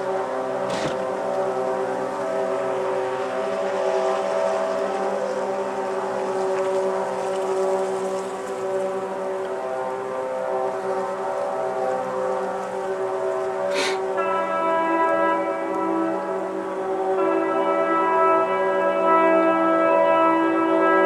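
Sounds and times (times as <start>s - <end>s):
ships' horns sounding: 0.0s - 21.0s.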